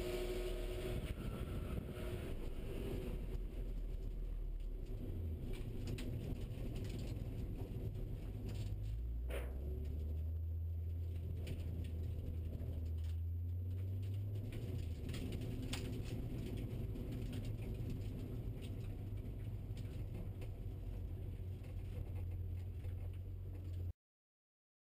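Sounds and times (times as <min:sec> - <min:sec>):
car engine low hum inside cabin: 0:00.0 - 0:23.9.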